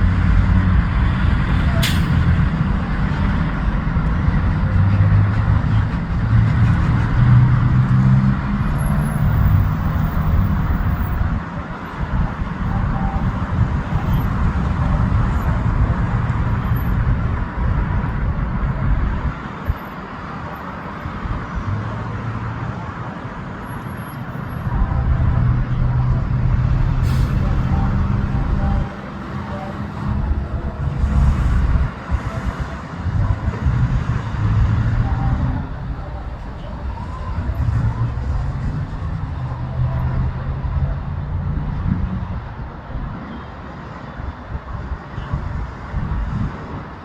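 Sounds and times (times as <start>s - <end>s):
low engine rumble: 0.0s - 19.4s, 24.3s - 43.5s.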